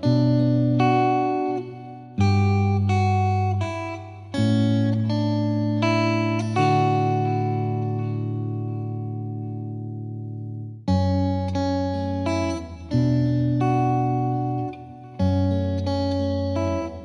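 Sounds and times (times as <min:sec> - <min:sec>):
plucked guitar chords: 0:00.0 - 0:17.0.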